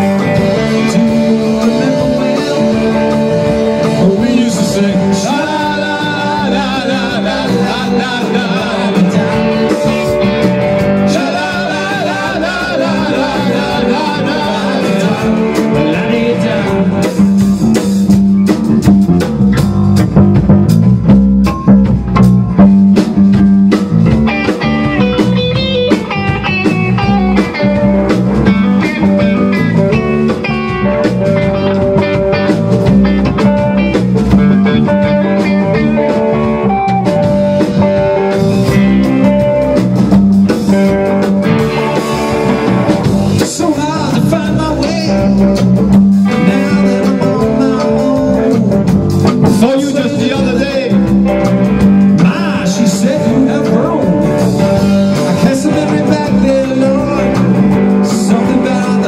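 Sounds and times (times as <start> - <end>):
drum kit playing: 0.0 - 59.0
electric guitars playing: 0.0 - 59.0.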